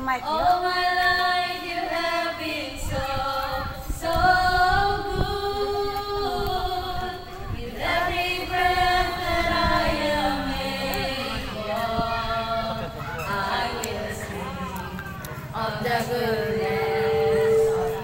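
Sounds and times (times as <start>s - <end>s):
group singing through loudspeaker: 0.1s - 18.0s.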